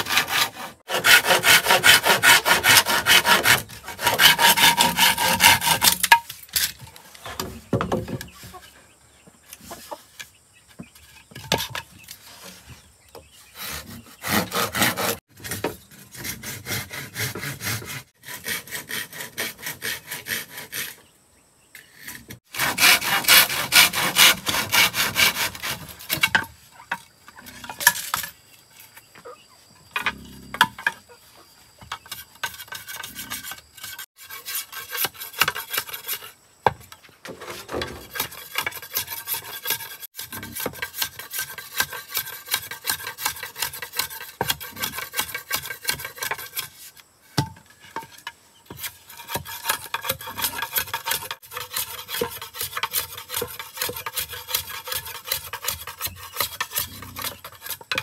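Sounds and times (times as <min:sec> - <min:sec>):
hand tool rasping on bamboo: 0:00.0 - 0:07.5, 0:11.0 - 0:21.1, 0:21.8 - 0:29.0, 0:31.8 - 0:36.4, 0:37.3 - 0:58.0.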